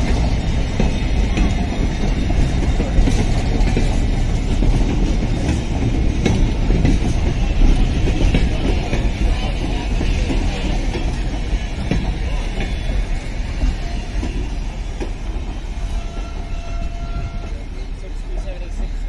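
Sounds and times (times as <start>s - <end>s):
train coaches rumbling: 0.0s - 19.0s
wheels clicking over rail joints: 0.0s - 19.0s.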